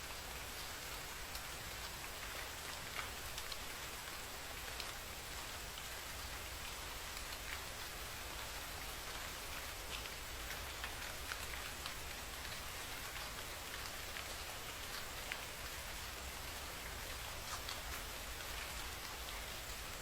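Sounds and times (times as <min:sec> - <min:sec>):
rain hissing on street: 0:00.0 - 0:20.0
raindrops ticking: 0:00.6 - 0:20.0.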